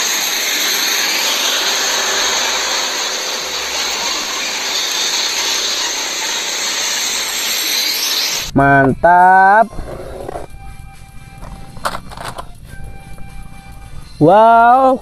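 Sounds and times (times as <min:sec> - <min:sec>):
low engine rumble: 0:00.0 - 0:15.0
truck engine and road noise: 0:00.0 - 0:15.0.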